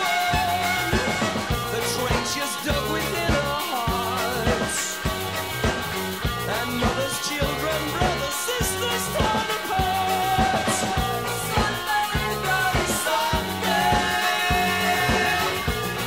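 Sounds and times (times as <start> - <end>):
rock song with drums and singing: 0.0 - 16.0.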